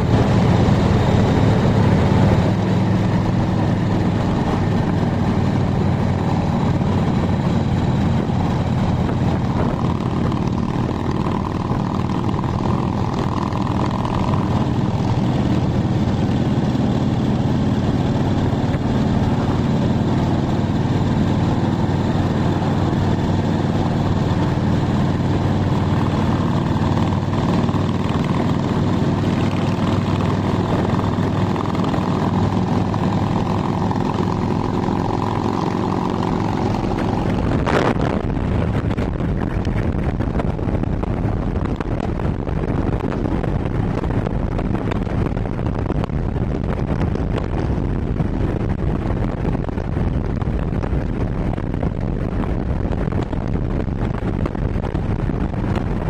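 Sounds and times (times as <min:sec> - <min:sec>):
car cabin road and engine rumble: 0:00.0 - 0:56.0.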